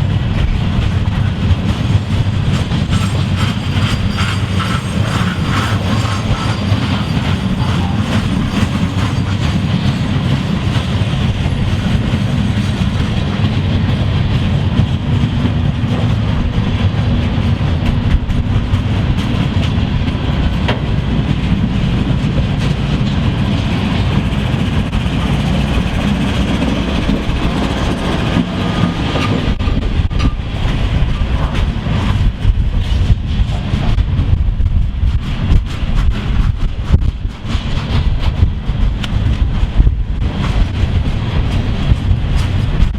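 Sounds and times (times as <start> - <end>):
train rolling over rails: 0.0 - 42.9.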